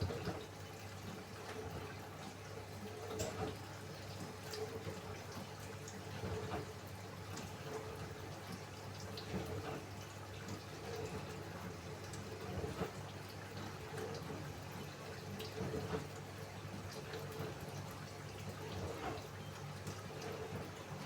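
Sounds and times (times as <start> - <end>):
washing machine hum: 0.0 - 21.0
water sloshing and dripping: 0.0 - 21.0.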